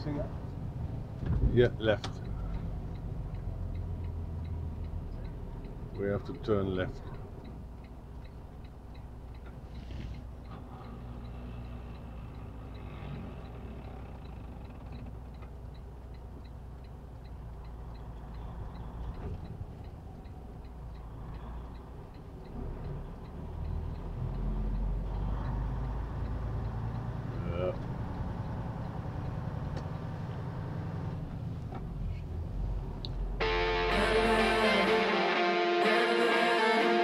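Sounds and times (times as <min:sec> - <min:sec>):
turn signal ticking: 0:00.0 - 0:34.4
truck engine droning: 0:00.0 - 0:37.0.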